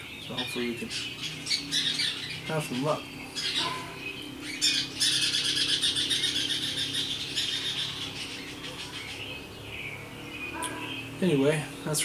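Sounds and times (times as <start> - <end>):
songbird warbling: 0.0 - 12.0.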